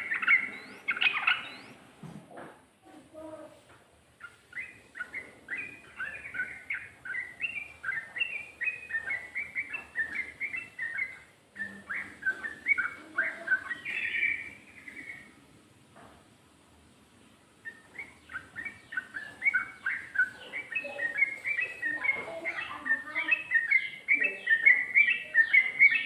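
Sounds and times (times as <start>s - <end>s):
bird singing rapid chirps: 0.0s - 1.8s, 4.2s - 15.4s, 17.6s - 26.0s.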